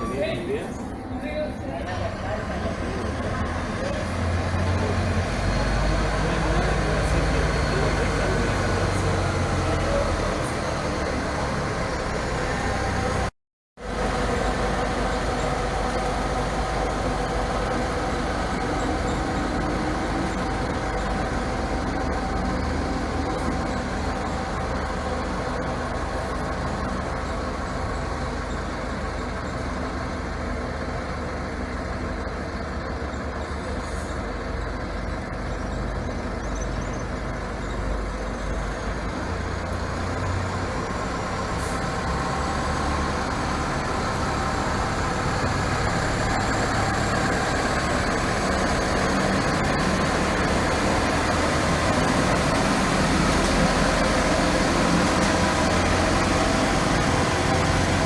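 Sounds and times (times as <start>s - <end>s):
bus engine idling: 0.0s - 58.0s.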